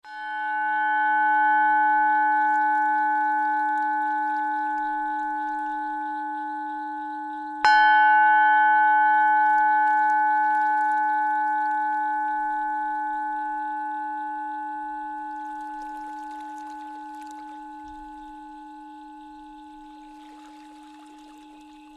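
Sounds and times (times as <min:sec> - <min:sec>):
singing bowl ringing: 0:00.0 - 0:21.9.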